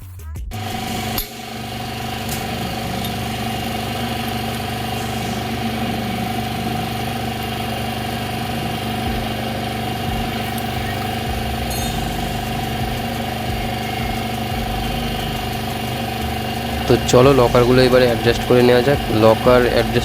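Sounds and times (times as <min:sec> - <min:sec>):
motorcycle engine idling: 0:00.5 - 0:20.0.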